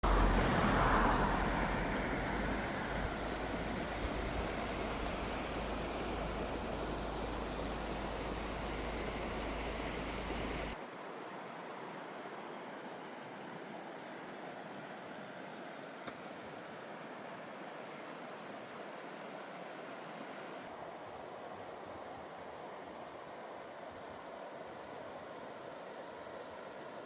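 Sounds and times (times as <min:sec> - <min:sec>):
mountain stream rushing: 0:00.0 - 0:26.8.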